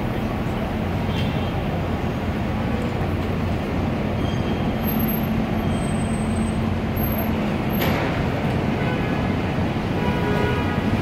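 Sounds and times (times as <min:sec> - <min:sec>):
heavy vehicle engines rumbling: 0:00.0 - 0:11.0
street traffic: 0:00.0 - 0:11.0.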